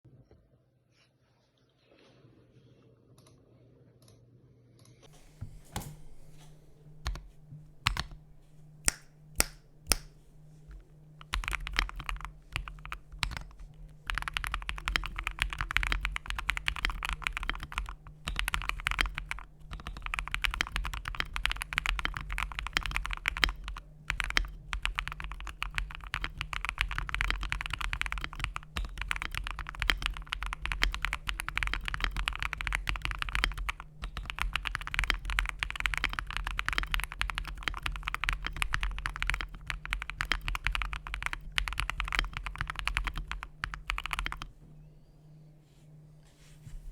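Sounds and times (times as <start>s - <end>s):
mechanical keyboard typing: 5.1s - 44.5s.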